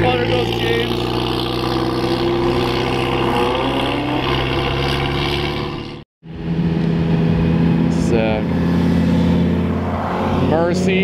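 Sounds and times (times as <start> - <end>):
car engine running steadily: 0.0 - 11.0
sports car engines driving away: 0.0 - 11.0.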